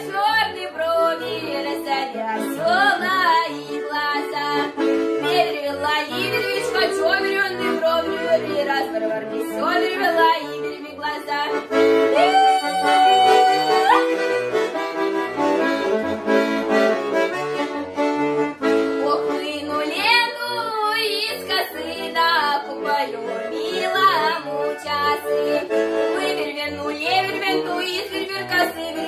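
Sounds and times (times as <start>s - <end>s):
accordion playing folk melody: 0.0s - 29.0s.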